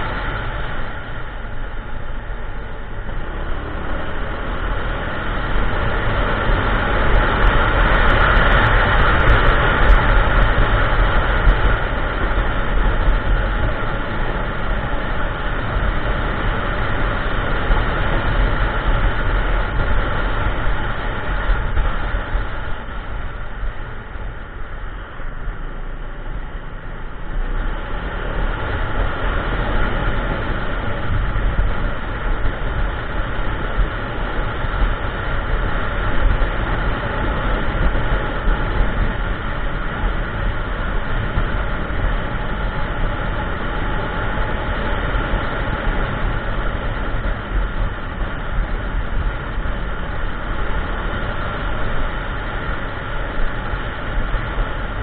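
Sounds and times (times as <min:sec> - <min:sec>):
scooter engine rumble: 0:00.0 - 0:55.0
wind rushing on microphone: 0:00.0 - 0:55.0.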